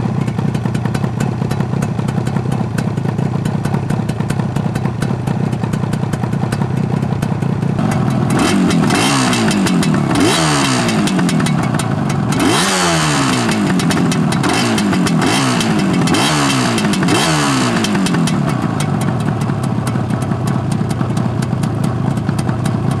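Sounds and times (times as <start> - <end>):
motorcycle engine revving and idling: 0.0 - 23.0.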